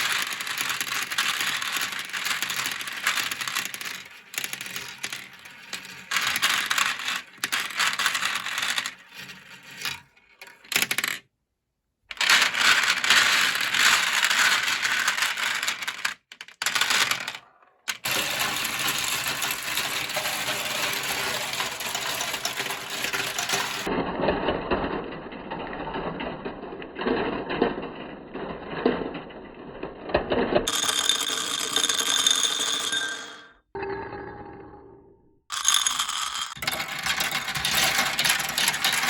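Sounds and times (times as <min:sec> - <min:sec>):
marbles rolling and clattering: 0:00.0 - 0:11.2, 0:12.1 - 0:33.7, 0:35.5 - 0:39.0.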